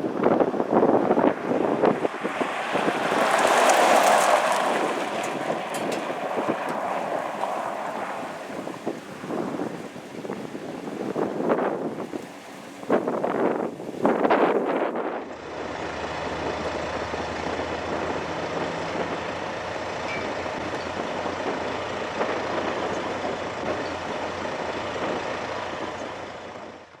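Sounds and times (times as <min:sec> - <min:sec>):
fire truck engine running: 0:00.0 - 0:27.0
wind buffeting microphone: 0:00.0 - 0:27.0.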